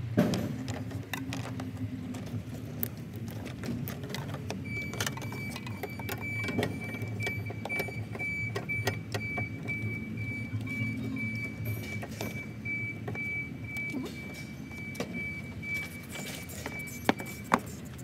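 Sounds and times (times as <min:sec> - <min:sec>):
plastic parts clicking and knocking: 0:00.0 - 0:18.0.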